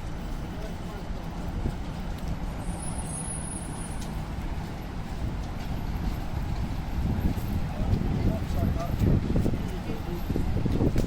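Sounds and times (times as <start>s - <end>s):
traffic on wet street: 0.0s - 11.0s.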